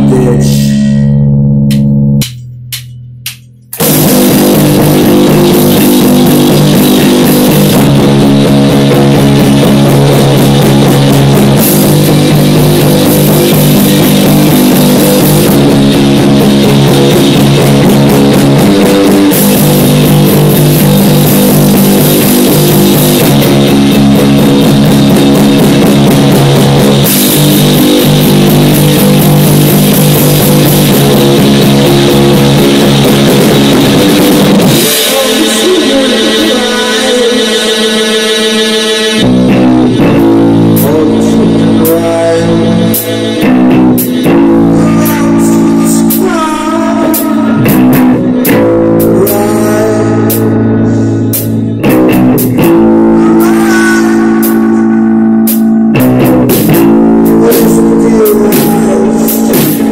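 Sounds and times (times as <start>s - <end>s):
drum kit: 0.0s - 59.9s
guitar chords: 0.0s - 59.9s
loud rock music: 0.0s - 59.9s.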